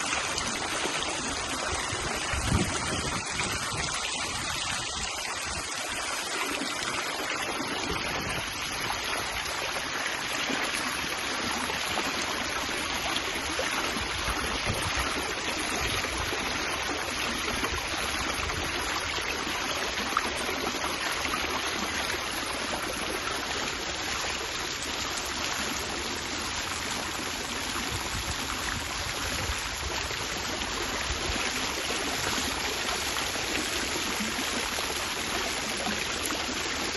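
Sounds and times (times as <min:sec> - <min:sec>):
water fountain splashing: 0:00.0 - 0:36.9.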